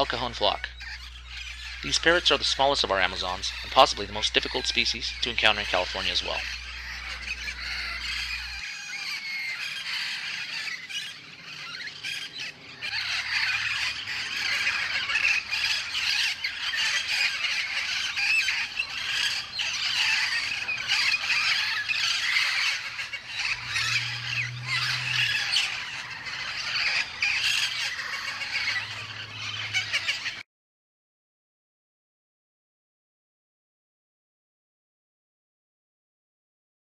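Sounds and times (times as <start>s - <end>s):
parrots squawking: 0.0s - 30.4s.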